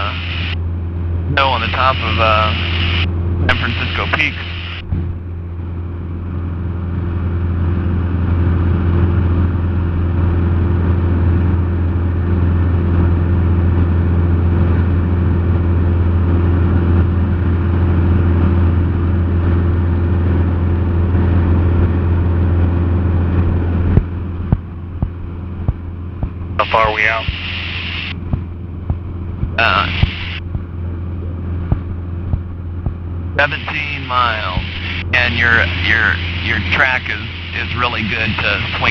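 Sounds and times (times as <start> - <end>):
aircraft engine drone in cabin: 0.0 - 38.9.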